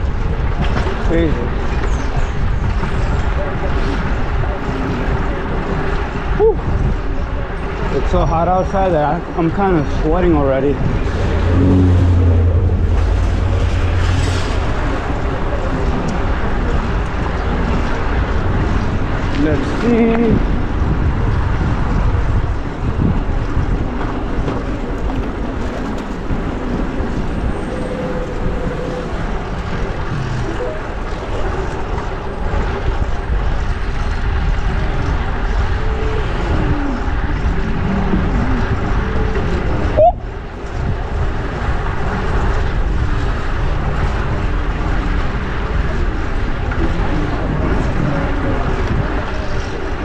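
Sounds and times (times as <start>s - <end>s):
vehicles passing: 0.0s - 50.0s
wind noise on microphone: 0.0s - 50.0s.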